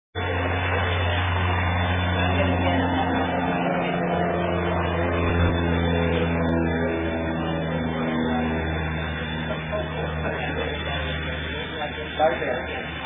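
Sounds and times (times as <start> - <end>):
plane engines idling: 0.2 - 13.0.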